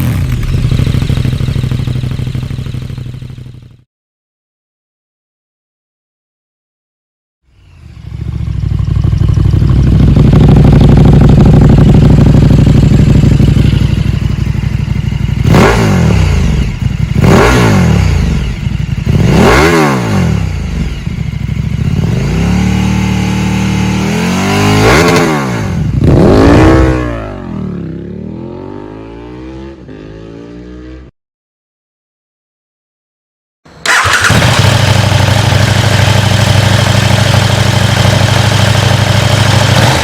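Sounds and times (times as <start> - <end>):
motorcycle engine revving: 0.0 - 3.8, 7.6 - 31.1, 33.7 - 40.0.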